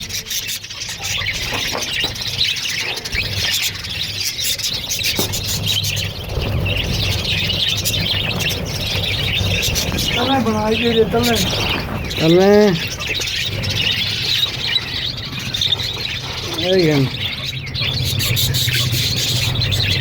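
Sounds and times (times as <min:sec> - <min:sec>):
parrots chirping and calling: 0:00.0 - 0:20.0.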